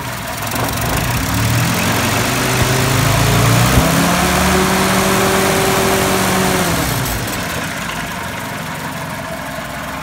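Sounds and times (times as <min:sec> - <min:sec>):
four-cylinder engine running: 0:00.0 - 0:10.0.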